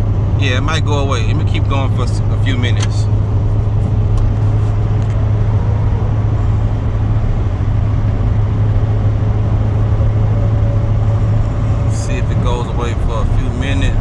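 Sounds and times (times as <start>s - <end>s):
car engine cruising drone: 0.0s - 14.0s
road noise hiss: 0.0s - 14.0s.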